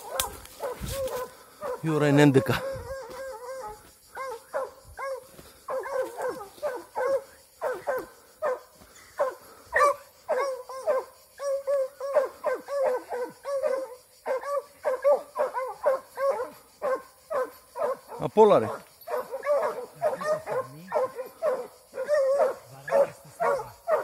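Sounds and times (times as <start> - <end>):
hounds baying: 0.0 - 24.0.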